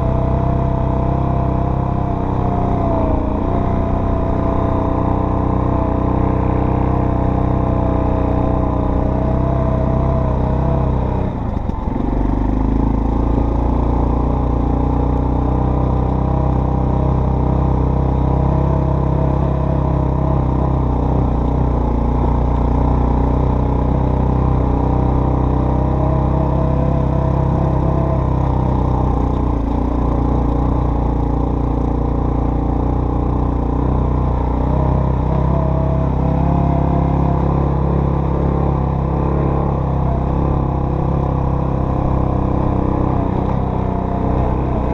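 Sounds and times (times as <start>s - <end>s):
off-road vehicle engine running: 0.0s - 44.9s.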